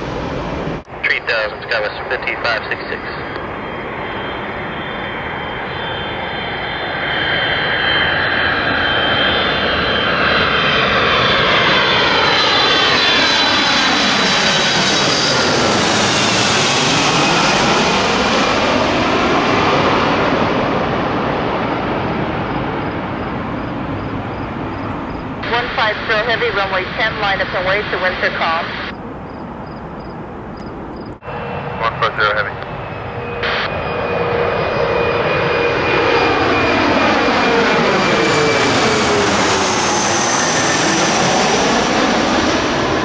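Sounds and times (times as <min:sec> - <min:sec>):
jet airliner passing overhead: 0:00.0 - 0:43.0.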